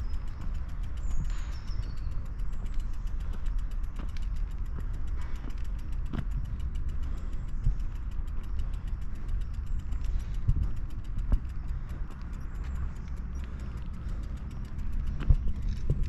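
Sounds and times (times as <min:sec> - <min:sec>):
wind and riding noise: 0:00.0 - 0:16.0.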